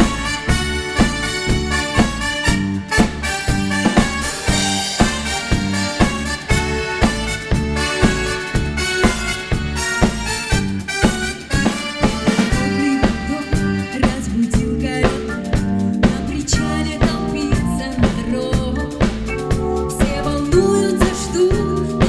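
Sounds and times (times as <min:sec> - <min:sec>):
bass: 0:00.0 - 0:22.0
drum kit beat: 0:00.0 - 0:22.0
live band playing: 0:00.0 - 0:22.0.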